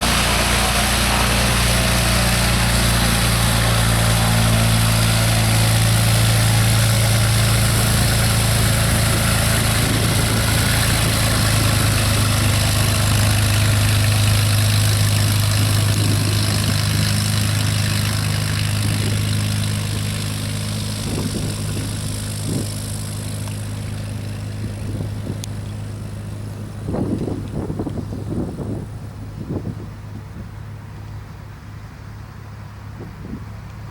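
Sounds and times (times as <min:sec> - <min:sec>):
propeller airplane engine drone: 0:00.0 - 0:33.9.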